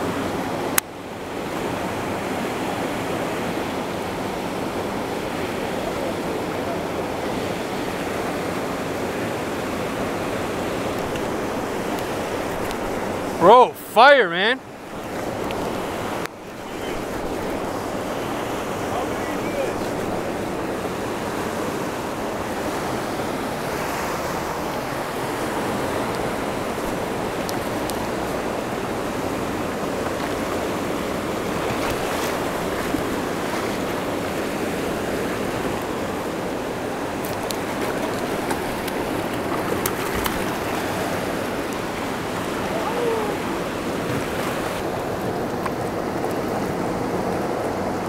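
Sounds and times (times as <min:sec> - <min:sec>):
river rapids rushing: 0:00.0 - 0:48.0.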